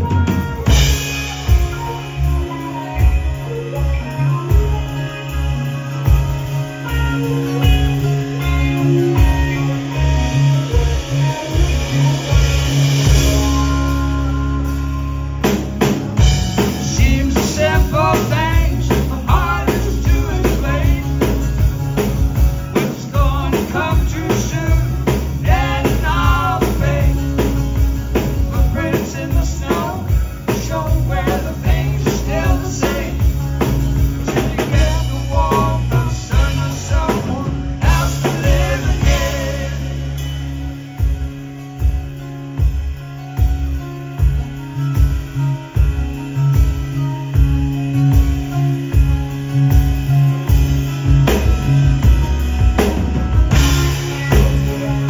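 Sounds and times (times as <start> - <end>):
electric guitar lead line: 0.0 - 55.0
rock band playing: 0.0 - 55.0.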